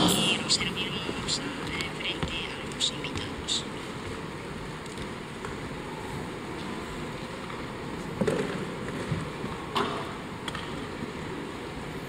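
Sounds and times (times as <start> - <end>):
large hall background noise: 0.0 - 12.0.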